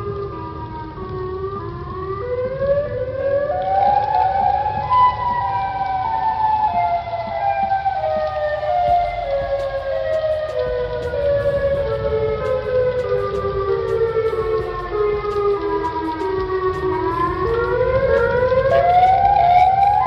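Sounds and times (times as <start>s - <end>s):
low background rumble: 0.0s - 20.0s
warning sirens wailing: 0.0s - 20.0s.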